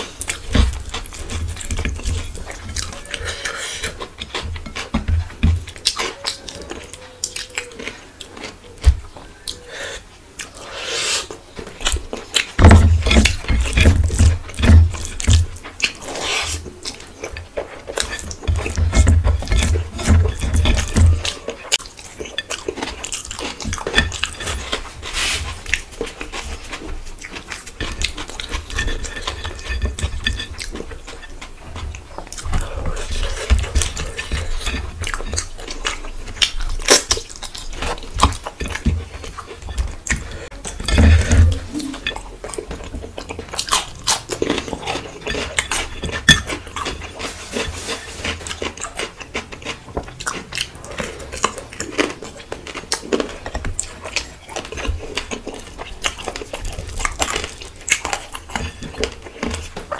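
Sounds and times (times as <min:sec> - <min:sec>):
close chewing: 0:00.0 - 0:59.9.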